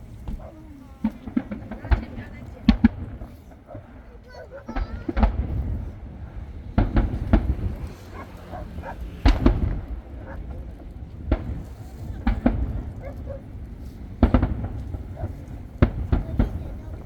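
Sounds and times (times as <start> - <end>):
firework shells booming: 0.0 - 17.0.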